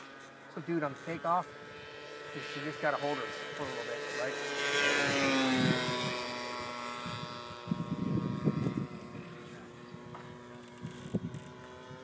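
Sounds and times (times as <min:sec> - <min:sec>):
model plane engine droning: 0:00.0 - 0:12.0.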